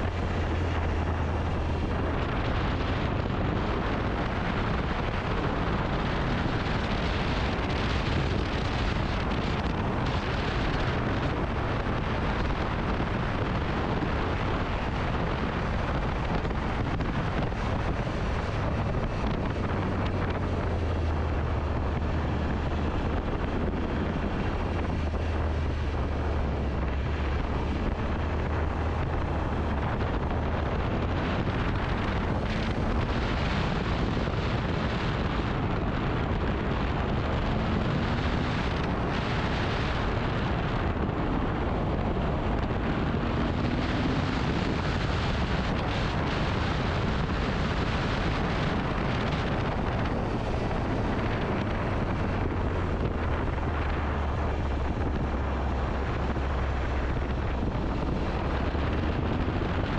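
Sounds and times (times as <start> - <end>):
motorcycle engine drone: 0.0 - 59.9
wind buffeting microphone: 0.0 - 59.9.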